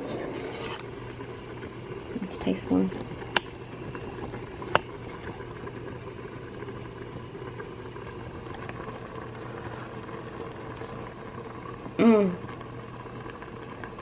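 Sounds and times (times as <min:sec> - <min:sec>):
low mechanical hum with hiss: 0:00.0 - 0:14.0.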